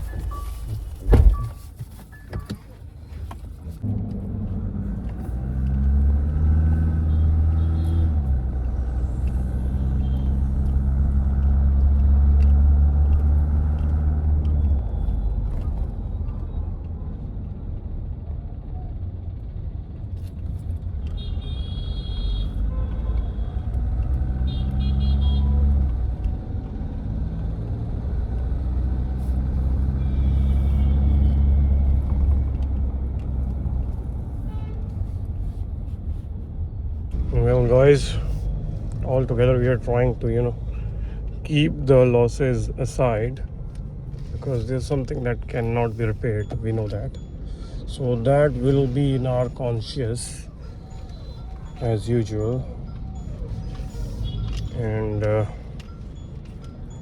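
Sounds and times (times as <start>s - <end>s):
car engine rumbling: 0.0s - 21.3s, 22.4s - 57.0s.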